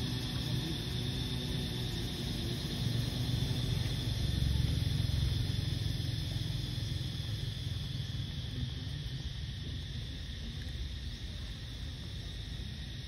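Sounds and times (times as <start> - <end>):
steady high hum: 0.0 - 13.0.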